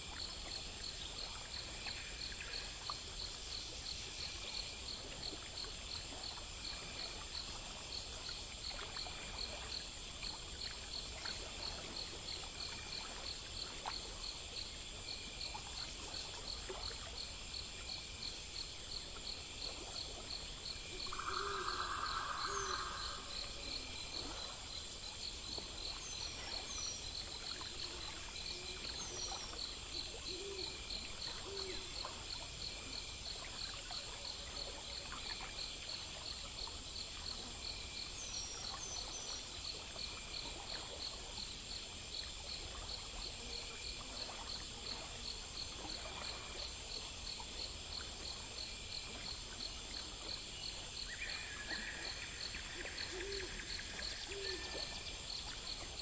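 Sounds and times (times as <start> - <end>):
crickets chirping: 0.0 - 56.0
steady high insect trill: 0.0 - 56.0.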